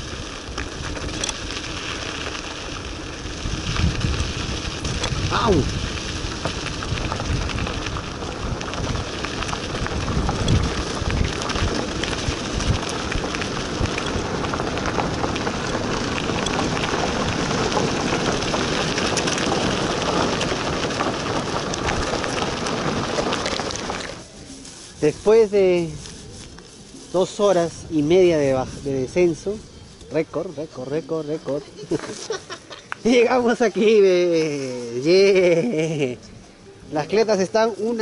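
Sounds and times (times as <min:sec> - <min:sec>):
bicycle tyres on gravel: 0:00.0 - 0:38.0.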